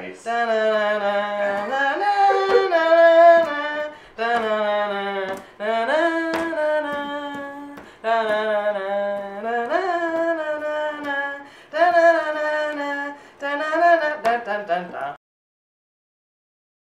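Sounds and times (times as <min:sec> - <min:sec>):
person singing without words: 0:00.1 - 0:15.2.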